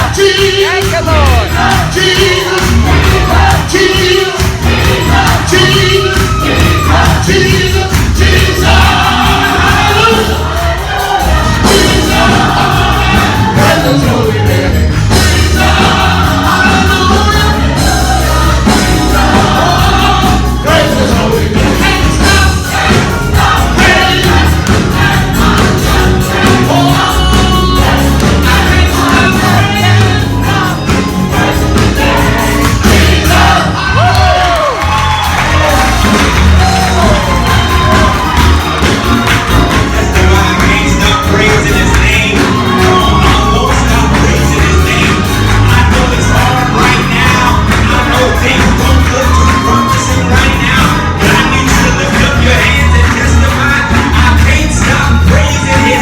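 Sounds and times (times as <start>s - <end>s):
band with steady beat: 0.0s - 56.0s
choir singing gospel: 0.0s - 56.0s.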